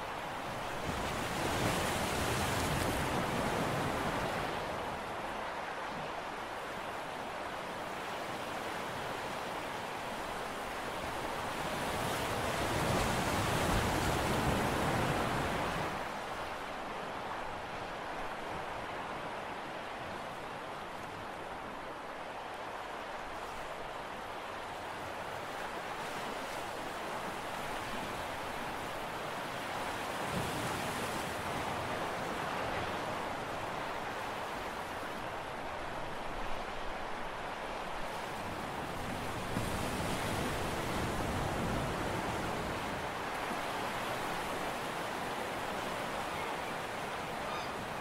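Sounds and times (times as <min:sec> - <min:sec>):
sea noise: 0:00.0 - 0:48.0
wind: 0:00.0 - 0:48.0.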